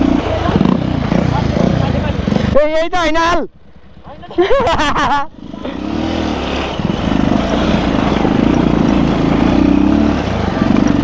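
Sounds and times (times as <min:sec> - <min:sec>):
motorcycle engine: 0:00.0 - 0:11.0
wind and road noise: 0:00.0 - 0:11.0.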